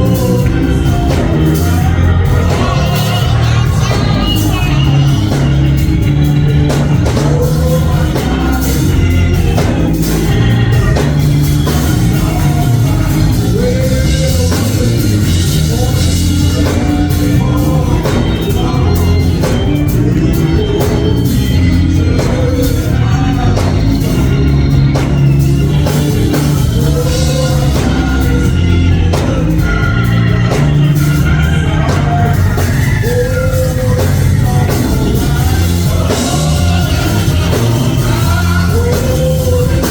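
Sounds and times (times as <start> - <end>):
organ and band playing: 0.0 - 39.9
voices singing: 0.0 - 39.9.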